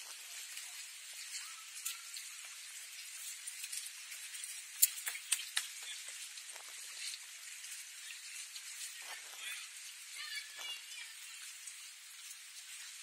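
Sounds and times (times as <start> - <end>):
water lapping against a wharf: 0.0 - 13.0.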